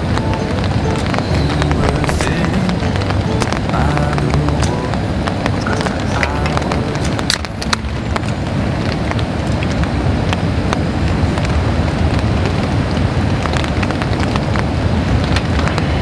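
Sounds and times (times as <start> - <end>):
light rain: 0.0 - 16.0
raindrops ticking: 0.0 - 16.0.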